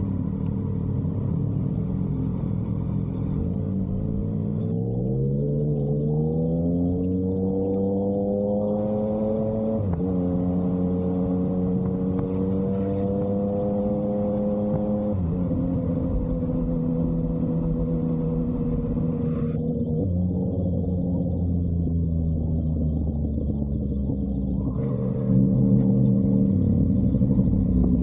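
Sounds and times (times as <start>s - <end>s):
motorcycle engine revving: 3.1s - 28.0s.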